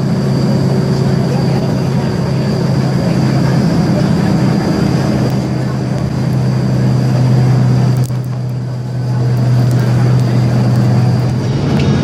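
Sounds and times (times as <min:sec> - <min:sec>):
bus engine drone: 0:00.0 - 0:12.0
road noise hiss: 0:00.0 - 0:12.0.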